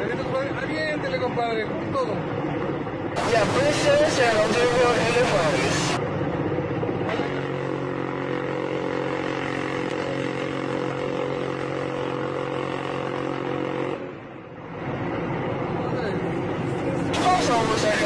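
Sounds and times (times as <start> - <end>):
helicopter hovering hum: 0.0 - 18.0.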